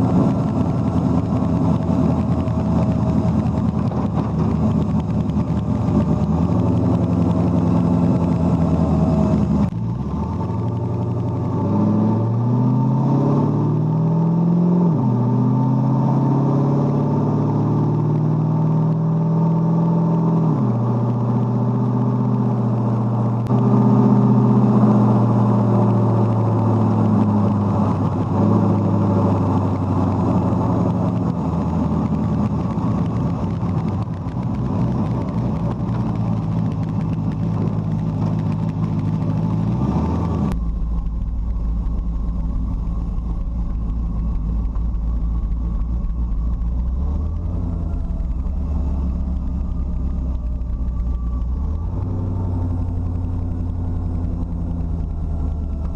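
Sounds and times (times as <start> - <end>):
car engine drone: 0.0 - 55.9.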